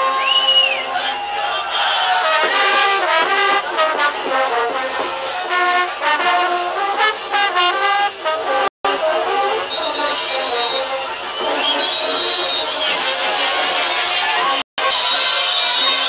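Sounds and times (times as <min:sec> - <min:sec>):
brass band playing dance tune: 0:00.0 - 0:16.0.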